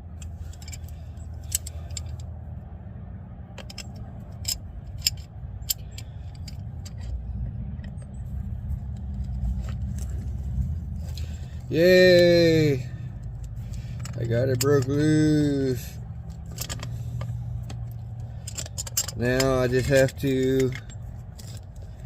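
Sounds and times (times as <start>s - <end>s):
metal tools clinking: 0.0s - 2.4s, 3.5s - 22.0s
steady low rumble: 0.0s - 22.0s.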